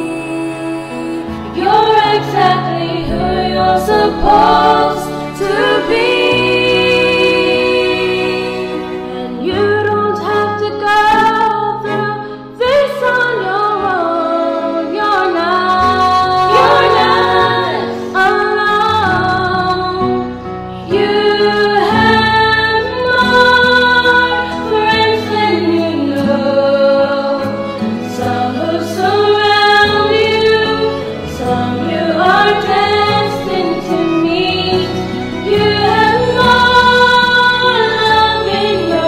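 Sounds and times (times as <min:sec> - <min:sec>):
woman singing in harmony: 0:00.0 - 0:39.0.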